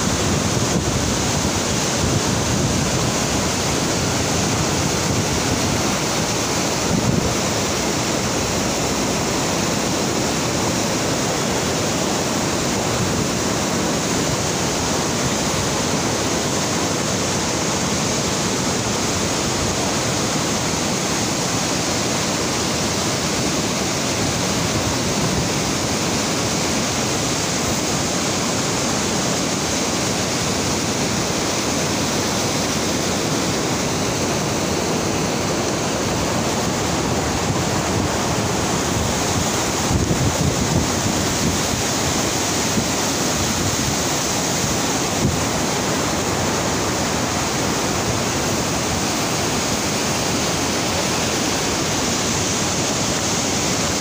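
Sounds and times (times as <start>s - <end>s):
river rushing through rapids: 0.0s - 54.0s.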